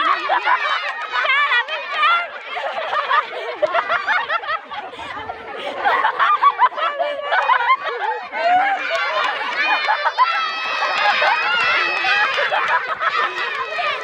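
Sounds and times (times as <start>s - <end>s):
group of people laughing: 0.0s - 14.0s.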